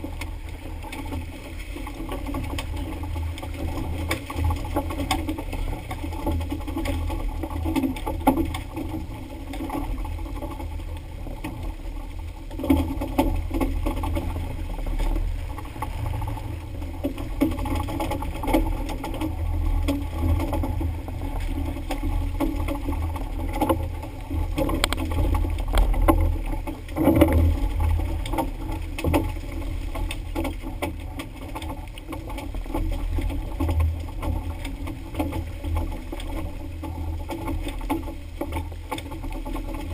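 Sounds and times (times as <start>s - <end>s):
boat engine low rumble: 0.0s - 39.9s
water splashing: 0.0s - 39.9s.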